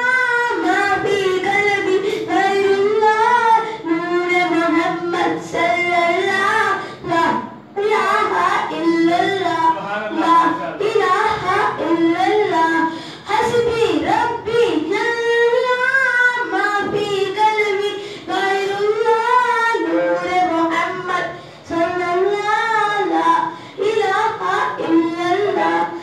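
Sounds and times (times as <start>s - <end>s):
boy singing unaccompanied: 0.0s - 26.0s.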